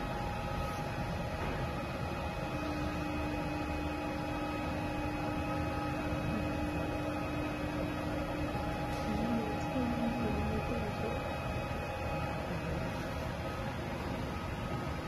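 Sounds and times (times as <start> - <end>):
hot-air blower and fan noise: 0.0 - 15.0
lower hum tone: 0.0 - 15.0
steady hum: 0.0 - 15.0.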